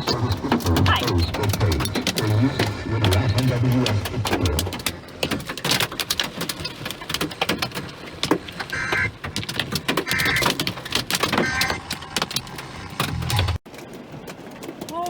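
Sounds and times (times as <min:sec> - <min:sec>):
hail pelting a car roof: 0:00.0 - 0:15.0.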